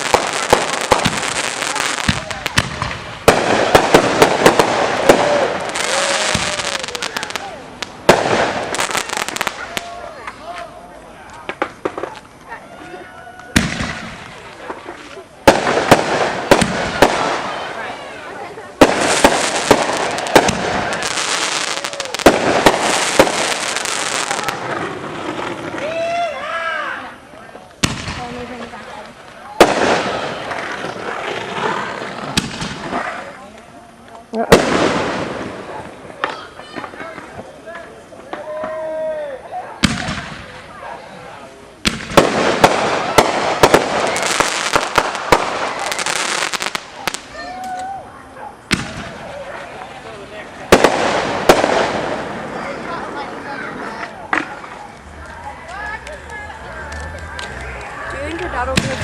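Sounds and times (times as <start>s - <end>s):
firework bangs: 0.0s - 10.6s, 11.4s - 12.4s, 13.3s - 26.2s, 27.8s - 33.5s, 34.4s - 41.2s, 41.8s - 47.6s, 48.6s - 59.0s
fireworks crackling: 0.0s - 59.0s.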